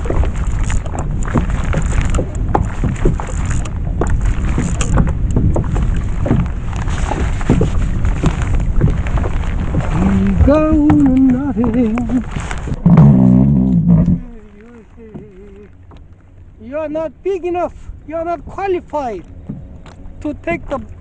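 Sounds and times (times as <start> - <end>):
water splashing against kayak hull: 0.0 - 21.0
wind rumble on microphone: 0.0 - 21.0.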